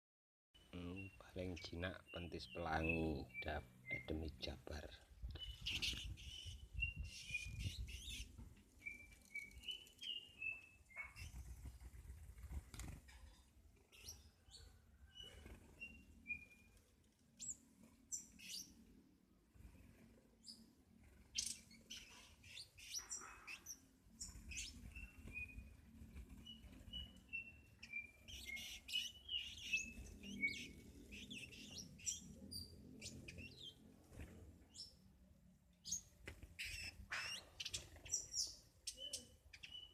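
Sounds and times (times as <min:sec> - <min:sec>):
songbirds chirping: 0:00.6 - 0:39.9.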